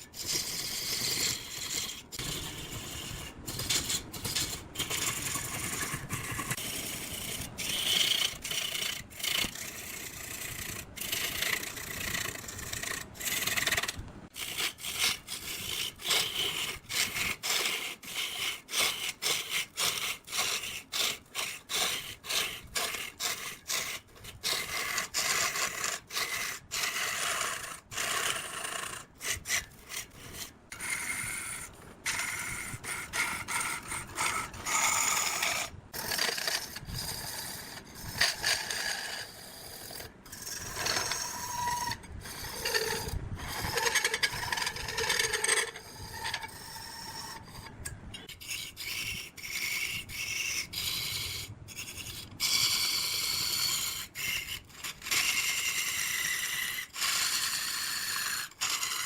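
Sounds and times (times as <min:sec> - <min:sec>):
hand tool scraping wood: 0:00.0 - 0:59.0.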